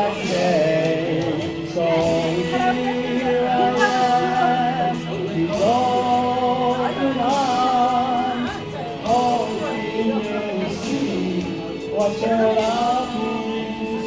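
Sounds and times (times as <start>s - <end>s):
instrumental backing: 0.0s - 14.0s
person singing: 0.0s - 14.0s.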